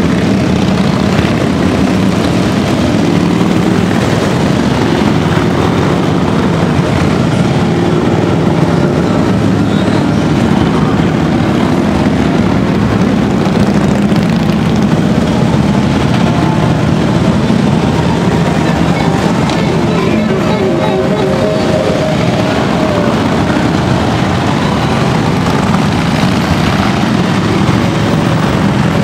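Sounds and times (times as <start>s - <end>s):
motorcycles riding past: 0.0s - 29.0s.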